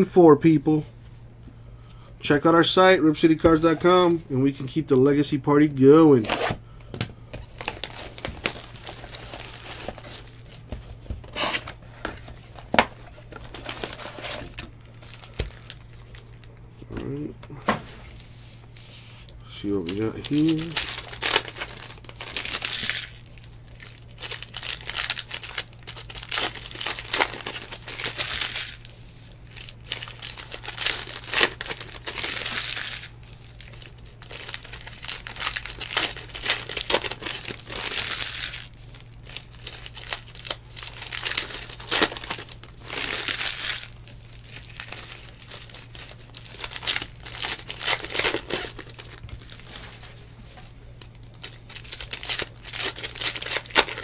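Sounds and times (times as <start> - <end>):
steady low hum: 0.0 - 54.0
foil wrappers crinkling: 7.3 - 54.0.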